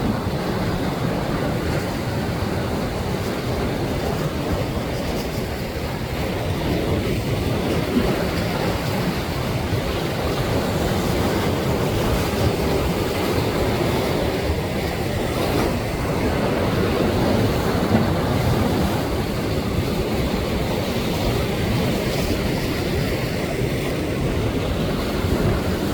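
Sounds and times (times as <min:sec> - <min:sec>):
ocean surf rushing: 0:00.0 - 0:25.9.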